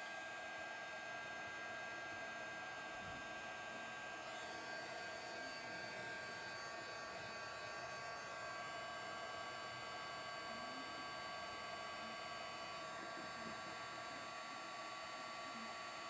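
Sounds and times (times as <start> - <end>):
heat gun blowing hum: 0.0 - 16.0.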